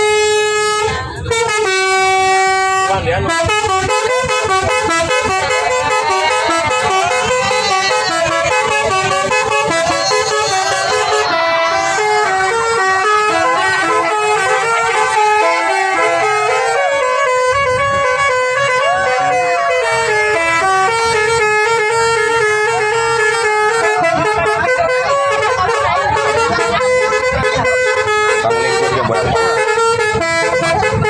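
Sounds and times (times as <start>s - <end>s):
multi-tone air horn melody: 0.0s - 31.0s.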